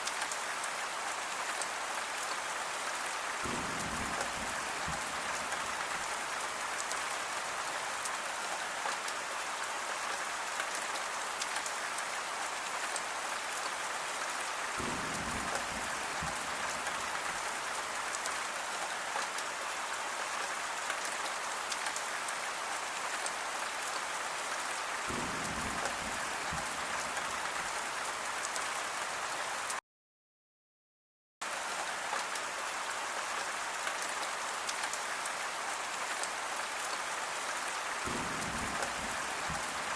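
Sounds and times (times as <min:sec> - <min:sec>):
dense rain falling: 0:00.0 - 0:29.8, 0:31.4 - 0:39.9.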